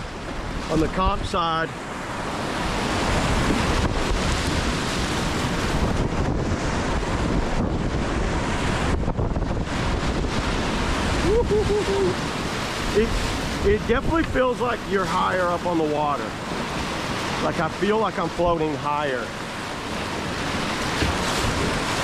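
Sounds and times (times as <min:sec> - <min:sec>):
whitewater rushing: 0:00.0 - 0:22.0
wind buffeting microphone: 0:00.0 - 0:22.0.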